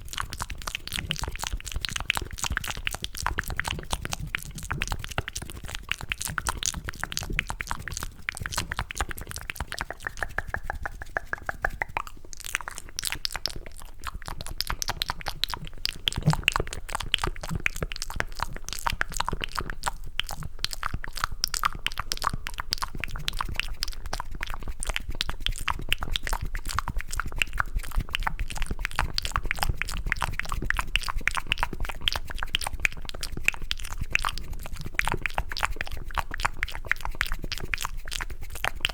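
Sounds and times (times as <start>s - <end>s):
wet mouth clicking and smacking: 0.0s - 38.9s.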